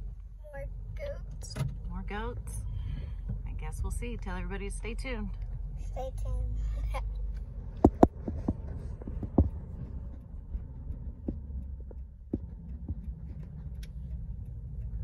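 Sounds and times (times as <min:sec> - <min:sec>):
vehicle rumble from inside cabin: 0:00.0 - 0:15.0.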